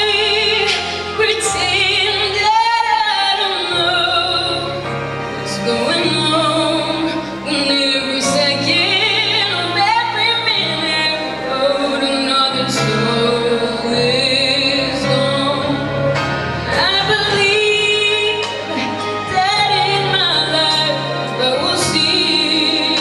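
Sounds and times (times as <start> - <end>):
instrumental accompaniment: 0.0 - 23.0.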